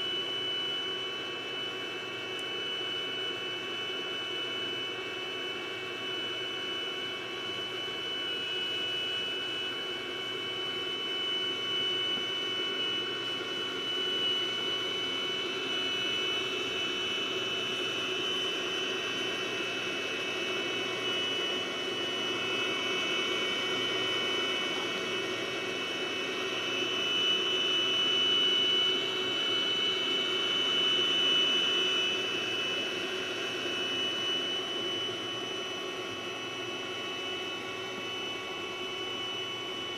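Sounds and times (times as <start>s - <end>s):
computer fan noise: 0.0s - 39.9s
high-pitched electrical whine: 0.0s - 39.9s.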